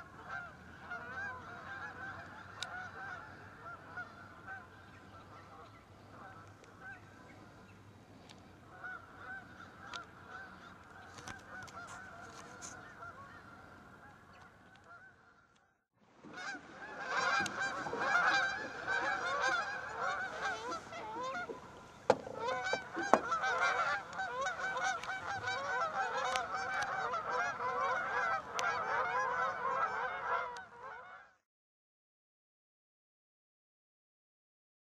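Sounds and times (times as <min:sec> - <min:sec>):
geese honking: 0:00.0 - 0:07.7, 0:08.3 - 0:31.4.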